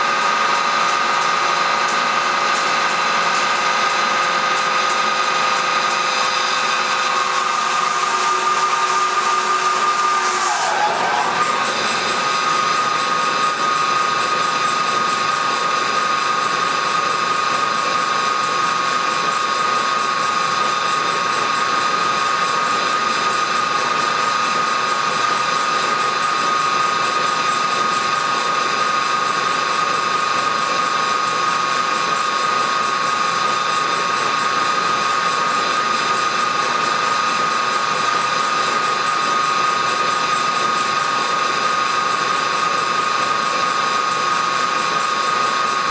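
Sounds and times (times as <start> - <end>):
bandsaw running high whine: 0.0 - 45.9.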